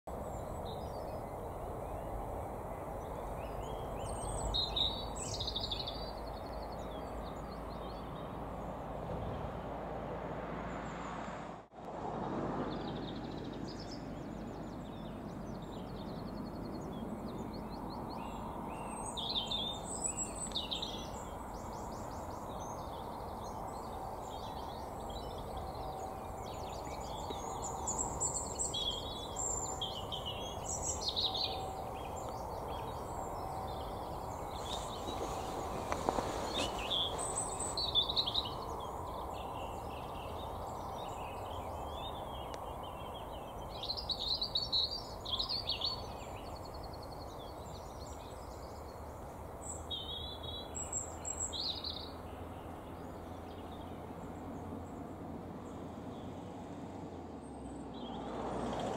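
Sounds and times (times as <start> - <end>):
small birds singing: 0.1 - 9.8, 12.6 - 58.9
low outdoor background noise: 0.1 - 58.9.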